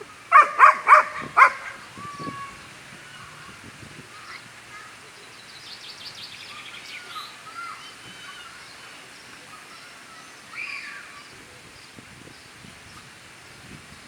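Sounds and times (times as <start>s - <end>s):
birds chirping: 0.0s - 12.6s
outdoor background hiss: 0.0s - 14.0s.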